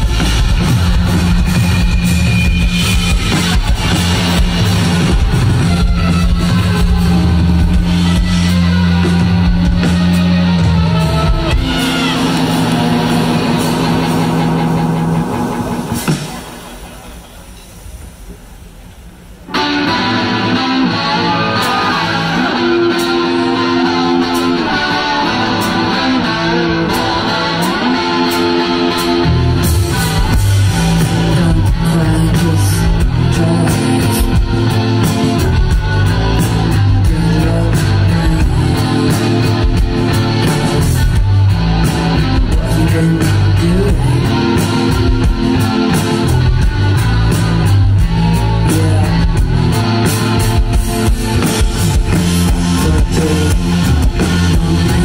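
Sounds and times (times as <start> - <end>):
bass guitar: 0.0 - 17.6, 19.4 - 55.0
electric guitar: 0.0 - 18.4, 19.4 - 55.0
drums with steady beat: 0.0 - 20.8, 21.6 - 55.0.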